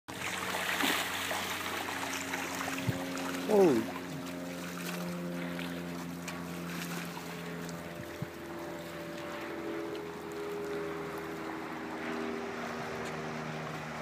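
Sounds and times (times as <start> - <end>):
lapping water: 0.1 - 13.3
distant motorboat engine drone: 0.1 - 14.0
wind: 0.1 - 14.0.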